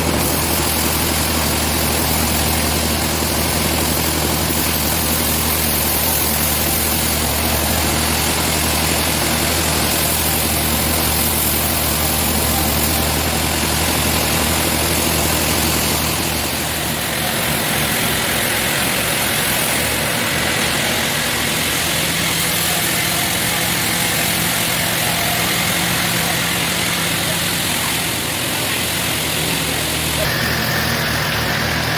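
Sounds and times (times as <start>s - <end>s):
sawmill machinery engine running: 0.0s - 31.9s.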